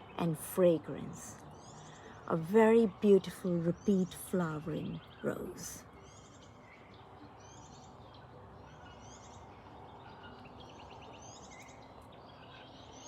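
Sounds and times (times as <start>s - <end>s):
faint birdsong: 0.0s - 13.0s
low outdoor background hum: 0.0s - 13.0s.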